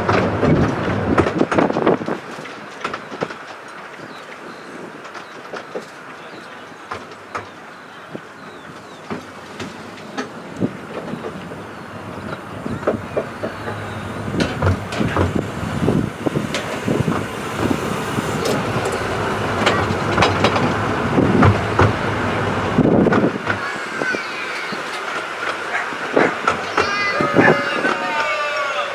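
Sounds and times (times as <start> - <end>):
train wheels clicking over rail joints: 0.0 - 28.9.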